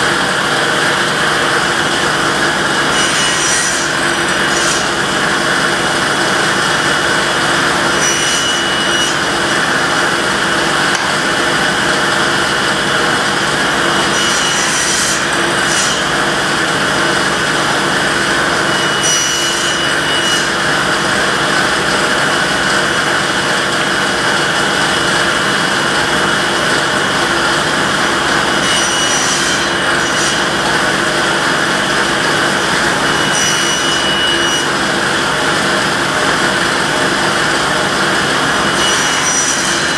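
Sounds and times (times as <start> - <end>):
saw blade cutting wood: 0.0 - 39.9
table saw running: 0.0 - 39.9.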